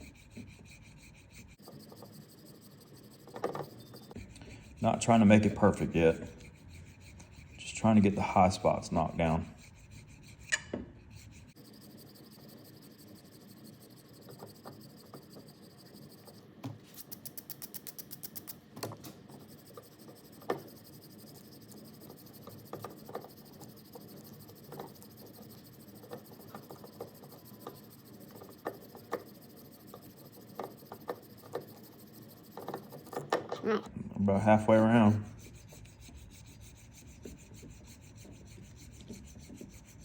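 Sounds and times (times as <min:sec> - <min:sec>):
hand file strokes on epoxy: 0:00.0 - 0:18.6, 0:19.2 - 0:33.2, 0:34.3 - 0:40.0.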